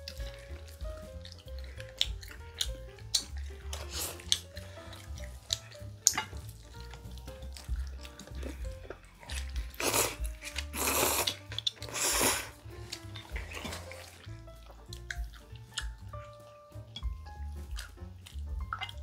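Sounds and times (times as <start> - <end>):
chopstick clicks and eating smacks: 0.0 - 12.1, 12.9 - 19.0
background music: 0.0 - 19.0
noodle slurping: 0.0 - 19.0.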